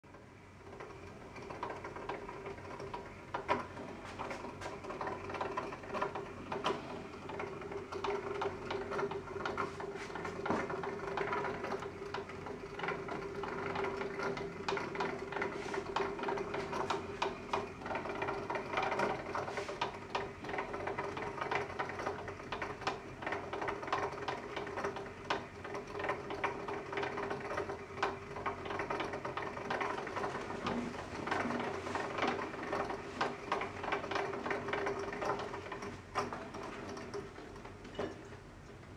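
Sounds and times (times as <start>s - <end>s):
steady hum: 0.0s - 38.9s
wooden gears clicking and rattling: 0.6s - 38.8s.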